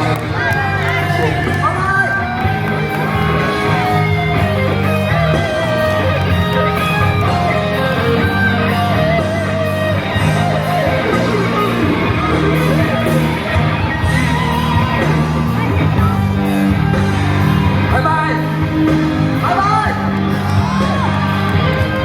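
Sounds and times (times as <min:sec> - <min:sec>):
bass line: 0:00.0 - 0:22.0
electric guitar: 0:00.0 - 0:22.0
live band music: 0:00.0 - 0:22.0.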